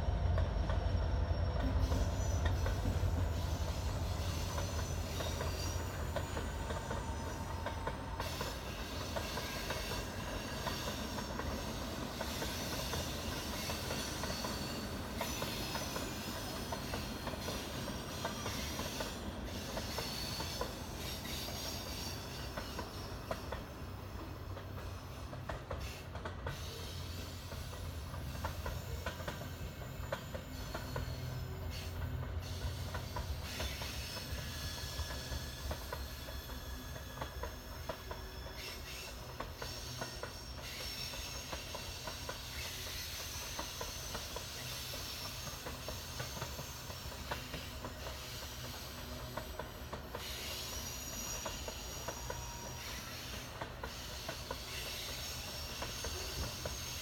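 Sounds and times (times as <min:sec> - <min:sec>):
train rumbling past: 0:00.0 - 0:57.0
high wheel squeal: 0:00.2 - 0:57.0
wheels clicking on rails: 0:01.6 - 0:57.0.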